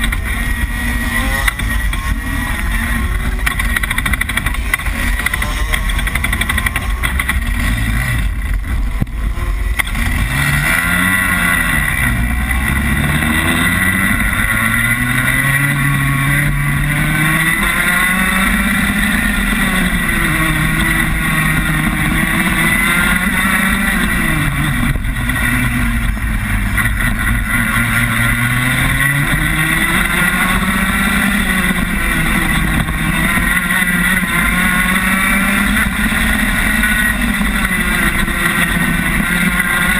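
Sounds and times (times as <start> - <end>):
kart engine at racing speed: 0.0 - 39.9.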